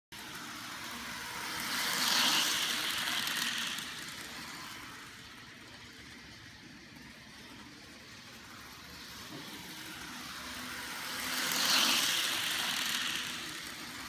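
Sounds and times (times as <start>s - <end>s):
model train whirring on track: 0.2s - 14.0s.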